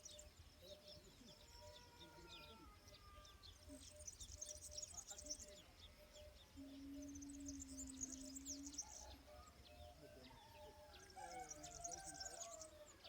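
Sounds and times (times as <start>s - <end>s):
lower wavering bird calls: 0.0s - 13.0s
small birds chirping: 0.0s - 13.0s.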